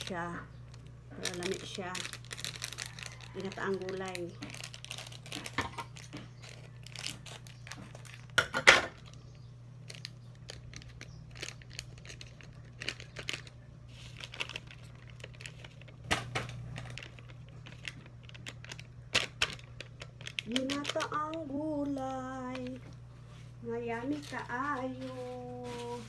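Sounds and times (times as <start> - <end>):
plastic sachet crinkling: 0.0 - 23.0
low steady hum: 0.0 - 26.0.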